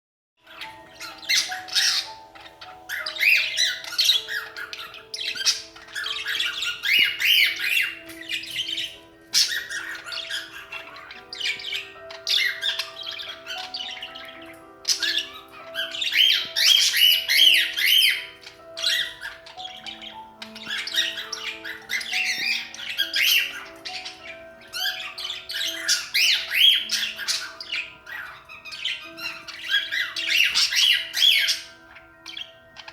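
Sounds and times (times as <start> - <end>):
cockatiels chattering and squawking: 0.4 - 32.9
melody of held notes: 0.4 - 32.9.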